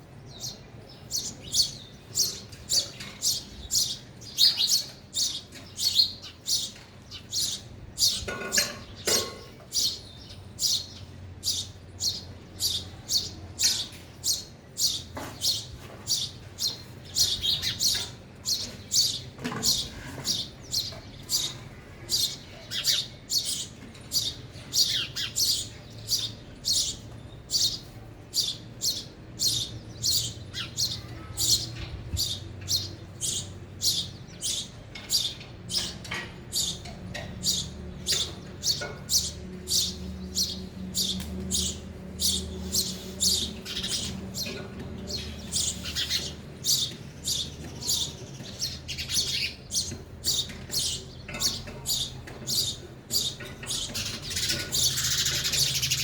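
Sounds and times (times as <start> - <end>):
sparrow chirping: 0.0 - 56.0.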